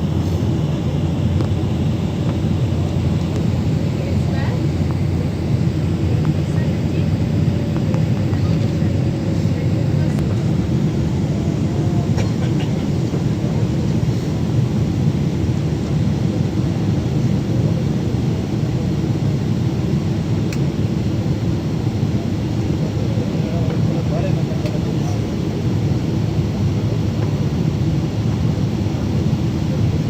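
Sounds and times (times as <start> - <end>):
jet airliner engine rumble: 0.0 - 30.0.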